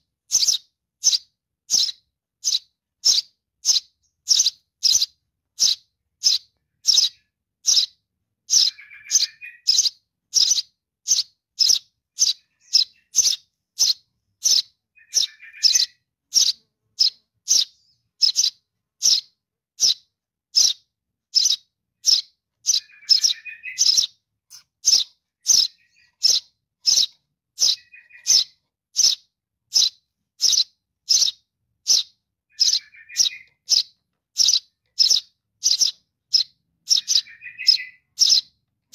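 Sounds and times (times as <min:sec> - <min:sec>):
fledgling sparrow begging chirps: 0:00.0 - 0:38.9
soft low bird twitter: 0:00.0 - 0:38.9.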